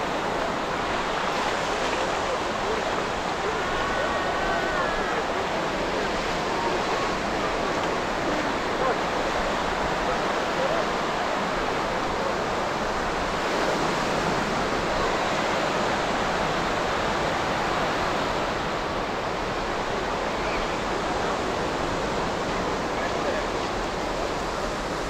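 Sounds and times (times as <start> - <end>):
surf washing onto beach: 0.0 - 25.0.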